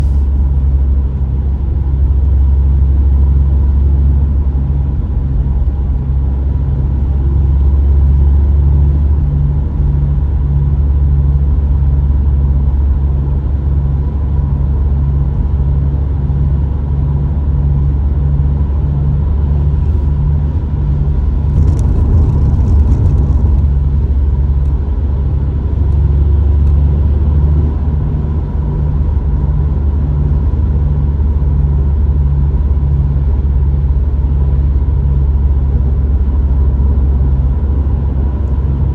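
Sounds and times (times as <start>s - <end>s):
car driving drone: 0.0s - 38.9s
pulsing rotating hum: 0.0s - 38.9s.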